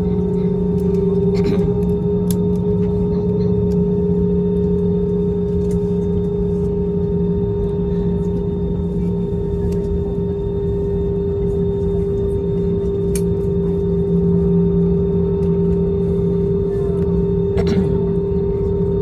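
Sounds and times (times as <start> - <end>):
airplane cabin drone: 0.0 - 19.0
steady humming tones: 0.0 - 19.0.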